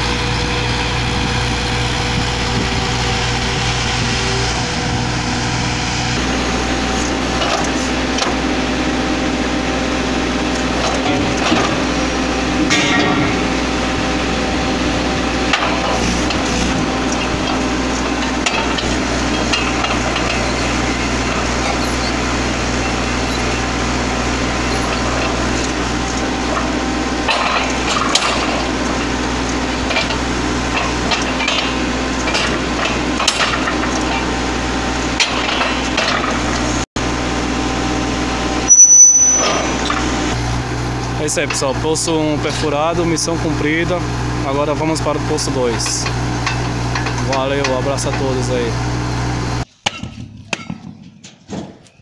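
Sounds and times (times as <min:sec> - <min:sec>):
drilling rig running: 0:00.0 - 0:49.9.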